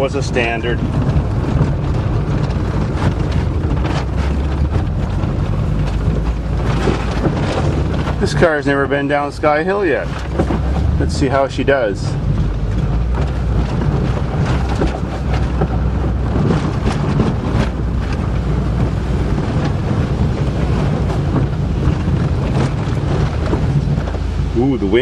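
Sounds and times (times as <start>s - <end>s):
car engine running: 0.0s - 25.0s
car knocks and rattles: 0.0s - 25.0s
wind noise on microphone: 0.0s - 25.0s.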